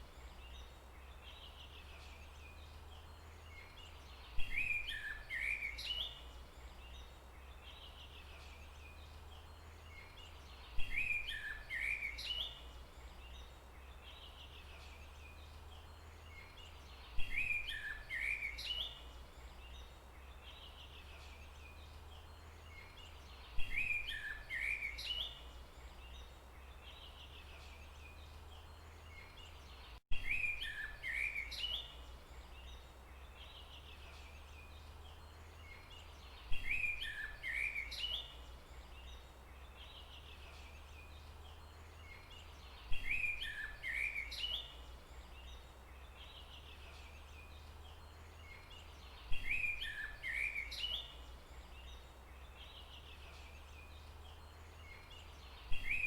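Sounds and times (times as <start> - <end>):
songbird chirping song: 0.0 - 56.0.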